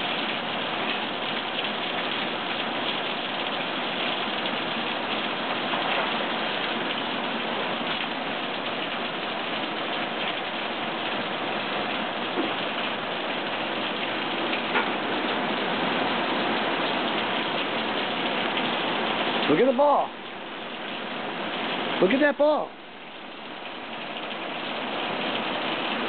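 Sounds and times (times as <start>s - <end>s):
rain falling on pool water: 0.0s - 26.0s.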